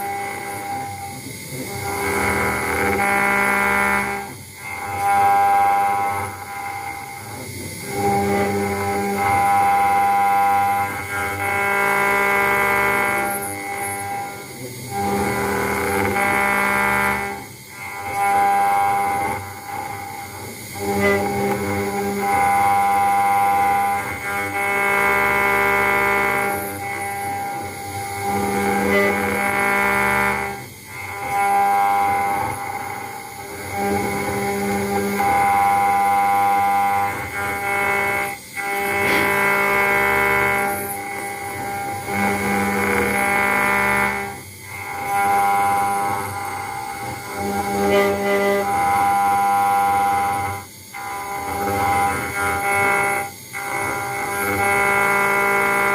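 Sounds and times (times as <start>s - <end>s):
stepper motors whining: 0.0s - 55.9s.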